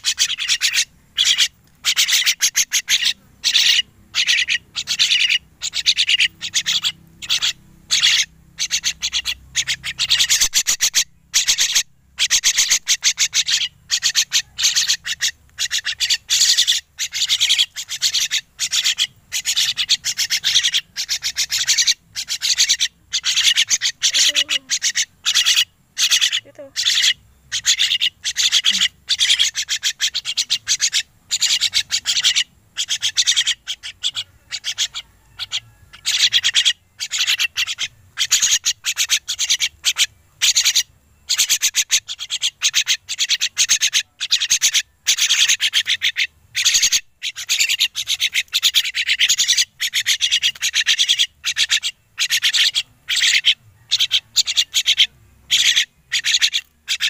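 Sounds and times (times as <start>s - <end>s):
young birds raspy begging calls: 0.0s - 57.0s.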